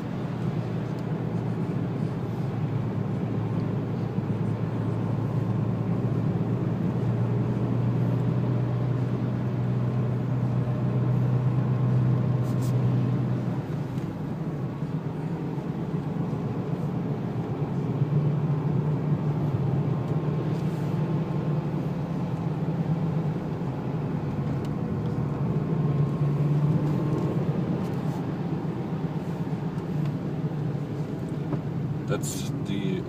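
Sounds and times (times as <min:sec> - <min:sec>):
car engine hum: 0:00.0 - 0:33.0
road and tyre noise: 0:00.0 - 0:33.0.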